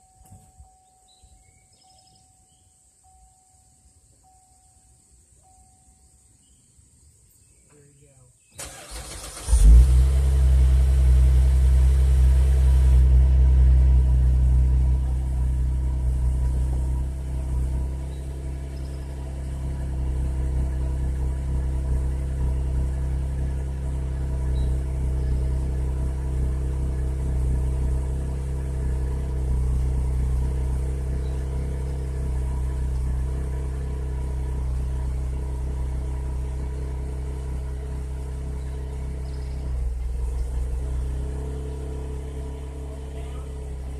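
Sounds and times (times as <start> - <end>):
car engine starting and idling: 8.5 - 43.9.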